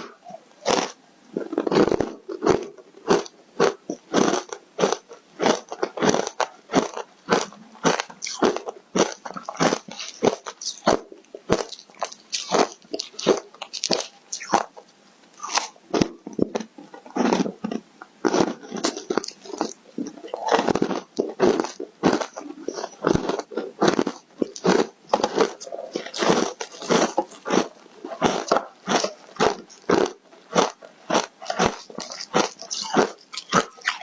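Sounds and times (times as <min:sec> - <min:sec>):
crunchy chewing: 0:00.0 - 0:34.0.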